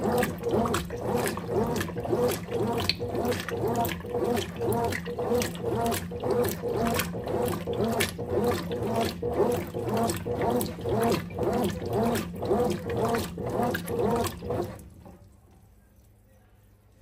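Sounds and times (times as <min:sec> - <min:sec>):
water sloshing in washing machine: 0:00.0 - 0:15.8
washing machine motor hum: 0:00.0 - 0:15.9.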